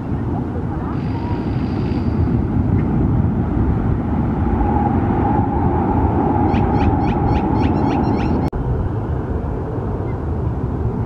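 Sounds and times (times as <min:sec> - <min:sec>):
low vehicle rumble: 0:00.0 - 0:11.0.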